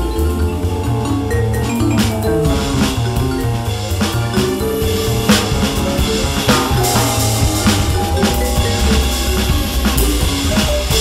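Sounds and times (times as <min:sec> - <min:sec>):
bass line: 0:00.0 - 0:11.0
electronic drum kit jazz groove: 0:00.0 - 0:11.0
held pitched notes: 0:00.0 - 0:11.0.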